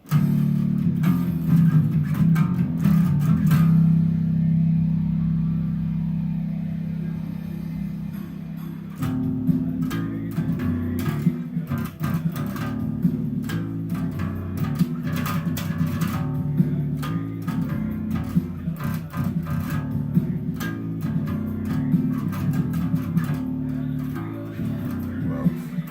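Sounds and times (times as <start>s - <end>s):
bass guitar playing: 0.0s - 25.9s
quiet backing music: 0.0s - 25.9s.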